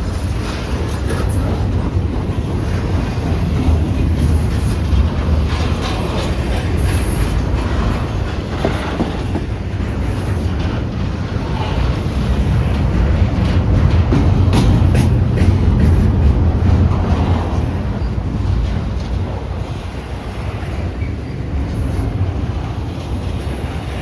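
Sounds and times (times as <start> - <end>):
freight train rumbling past: 0.0 - 24.0
train wheels clicking over rail joints: 0.0 - 24.0.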